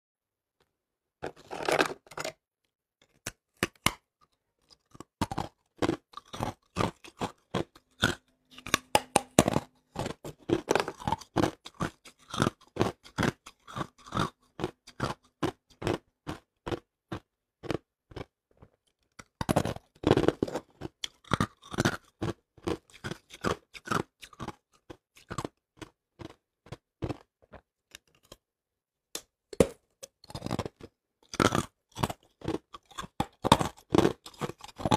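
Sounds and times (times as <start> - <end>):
ice crunching while chewed: 1.2 - 2.4, 3.0 - 28.4, 29.6 - 34.9.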